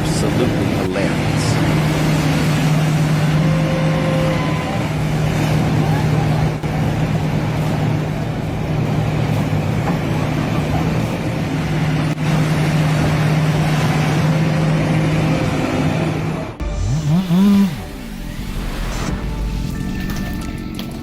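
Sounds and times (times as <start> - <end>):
engine running steadily: 0.0 - 21.0
heavy mechanical noise: 0.0 - 21.0.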